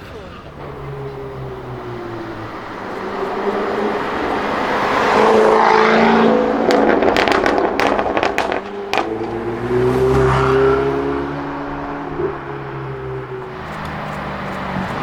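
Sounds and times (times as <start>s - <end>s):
car engine accelerating hard: 0.0s - 15.0s
exhaust crackles and pops: 0.0s - 15.0s.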